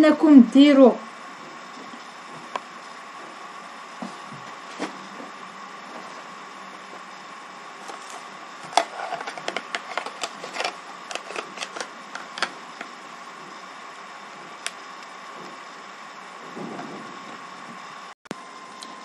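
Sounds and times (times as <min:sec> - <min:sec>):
faint hiss and hum: 0:00.0 - 0:19.0.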